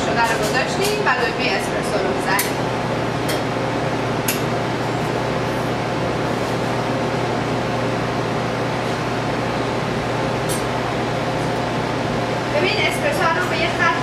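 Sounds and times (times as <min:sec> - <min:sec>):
espresso machine pump humming: 0:00.0 - 0:14.0.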